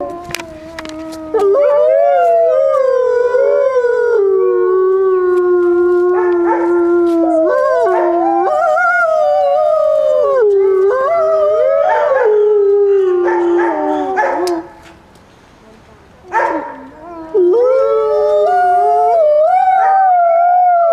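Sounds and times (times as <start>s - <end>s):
wolves howling: 0.0s - 15.0s, 16.2s - 20.9s.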